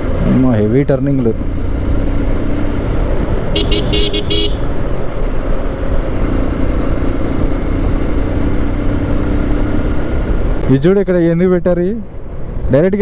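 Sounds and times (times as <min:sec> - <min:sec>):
motorcycle engine hum: 0:00.0 - 0:10.7
wind and road noise: 0:00.0 - 0:13.0.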